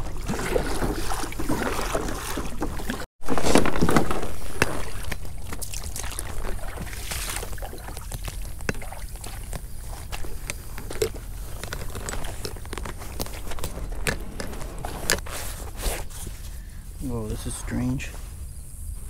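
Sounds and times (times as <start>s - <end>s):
footsteps crunching on ground: 2.9s - 18.4s.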